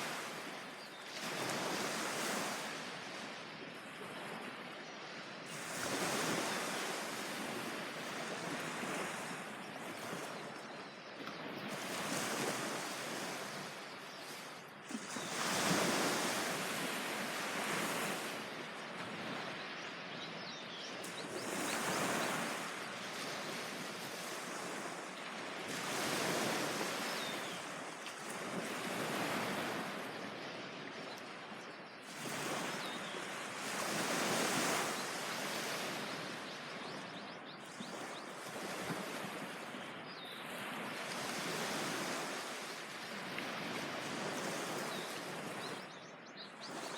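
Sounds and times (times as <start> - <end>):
sea waves breaking on beach: 0.0 - 46.9.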